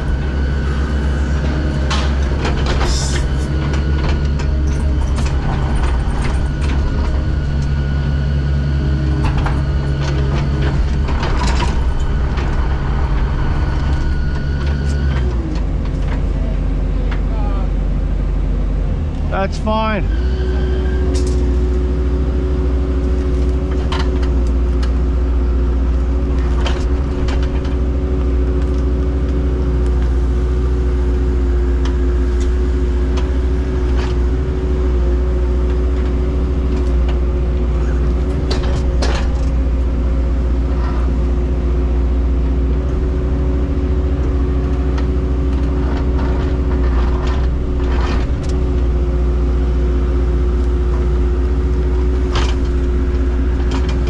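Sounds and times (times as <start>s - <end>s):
heavy machinery engine running: 0.0s - 54.0s.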